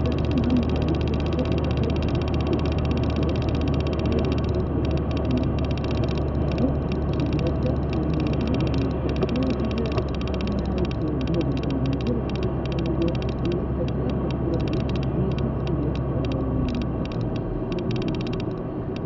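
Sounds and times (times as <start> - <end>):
car engine and tyre drone: 0.0 - 19.0.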